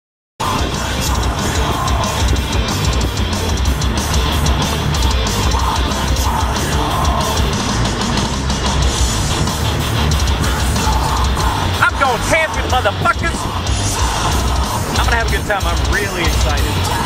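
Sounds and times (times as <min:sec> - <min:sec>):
heavy rock music: 0:00.4 - 0:17.0.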